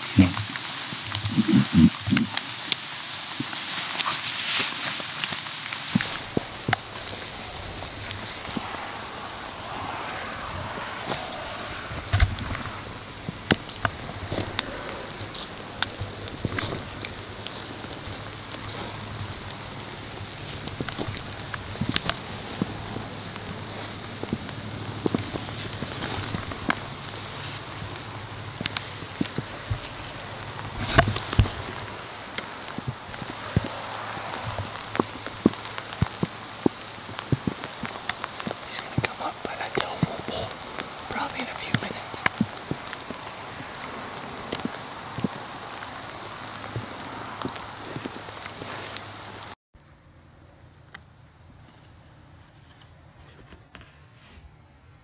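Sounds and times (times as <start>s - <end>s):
movement through wet grass: 0.0s - 49.6s
rain pattering: 0.0s - 49.6s.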